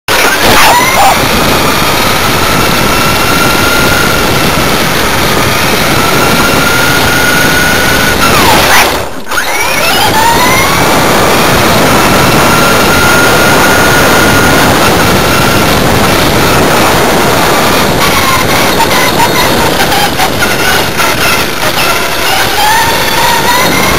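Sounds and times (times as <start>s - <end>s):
loud rushing noise: 0.1s - 23.9s
small electric motor whining: 0.1s - 23.9s.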